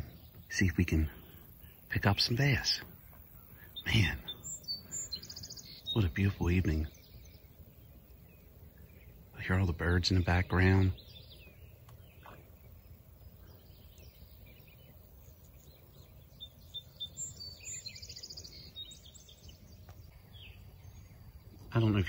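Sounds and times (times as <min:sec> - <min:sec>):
bird trill: 0:00.0 - 0:22.0
songbirds chirping: 0:00.0 - 0:22.0.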